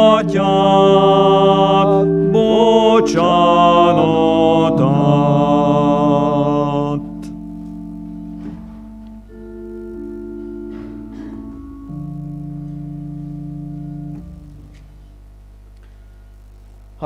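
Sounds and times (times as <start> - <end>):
congregation singing a hymn: 0.0 - 14.4
organ chords: 0.0 - 17.0.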